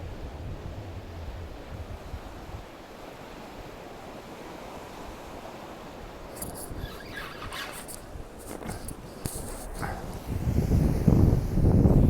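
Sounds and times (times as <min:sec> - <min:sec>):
wind rumbling on microphone: 0:00.0 - 0:04.1, 0:04.7 - 0:12.0
sea waves washing on shore: 0:00.0 - 0:12.0.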